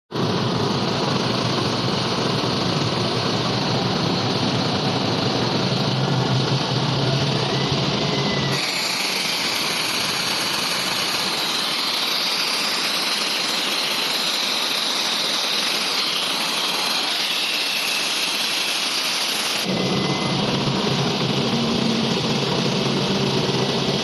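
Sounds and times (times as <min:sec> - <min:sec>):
air compressor hum: 0:00.2 - 0:24.0.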